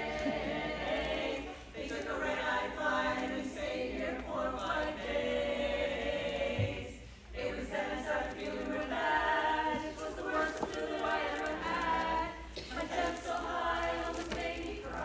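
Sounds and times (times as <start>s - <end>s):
women singing a cappella harmony: 0.0s - 15.0s.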